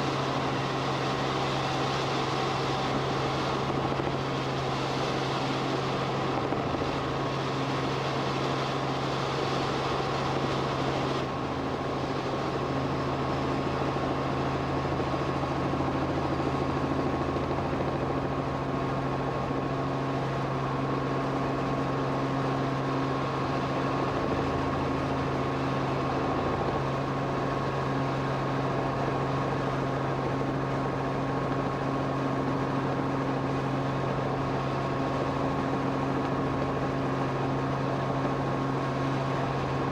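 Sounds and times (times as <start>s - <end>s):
aircraft drone in flight: 0.0s - 39.9s.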